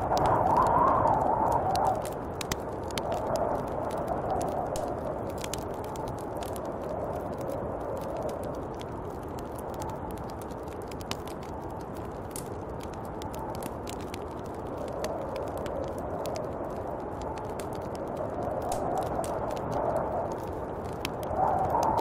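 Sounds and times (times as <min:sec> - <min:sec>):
light crackling ticks: 0:00.0 - 0:22.0
wind blowing in gusts: 0:00.0 - 0:22.0.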